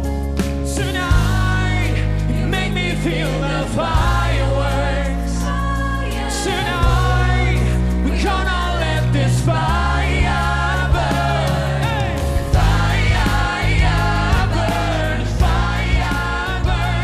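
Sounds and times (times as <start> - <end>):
live pop ballad band: 0.0 - 17.0
man singing: 0.7 - 5.3, 6.4 - 17.0
backing choir singing: 0.7 - 17.0.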